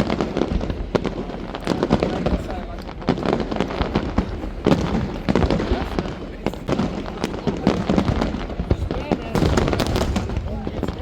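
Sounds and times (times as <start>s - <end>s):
firework bangs and crackles: 0.0s - 11.0s
heavy firework booms: 0.0s - 11.0s.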